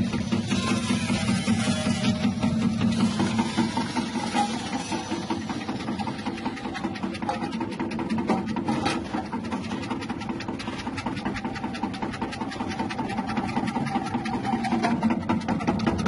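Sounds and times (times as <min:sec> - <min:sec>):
slicing machine hum and clatter: 0:00.0 - 0:16.0.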